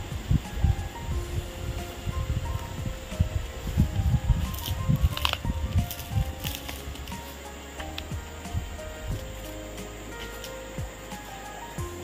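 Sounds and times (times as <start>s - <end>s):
low thumps and rumble: 0.0s - 11.2s
slow melody of held notes: 0.0s - 12.0s.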